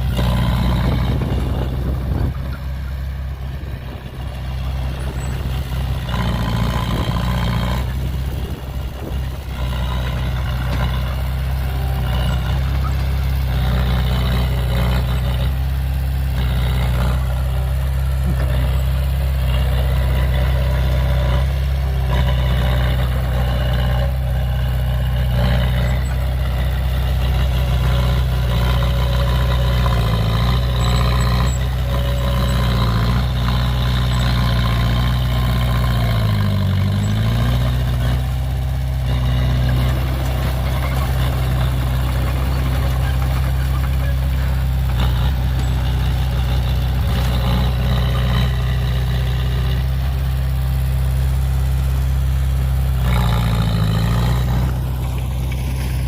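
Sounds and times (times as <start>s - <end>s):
dump truck engine idling: 0.0s - 56.0s.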